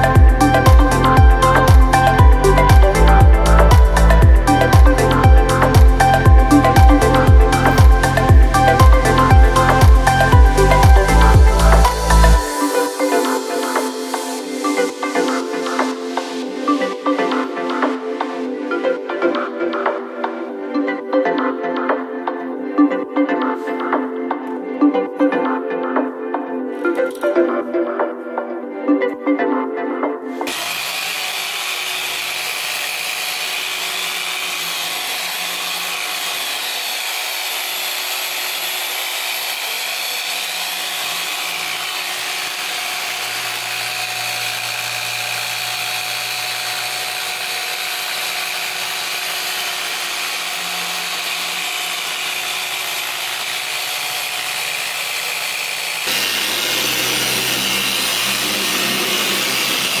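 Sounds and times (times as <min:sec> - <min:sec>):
machine polisher whining: 0:00.0 - 0:19.2, 0:30.4 - 1:00.0
deeper-running polisher: 0:00.0 - 0:20.5, 0:30.4 - 1:00.0.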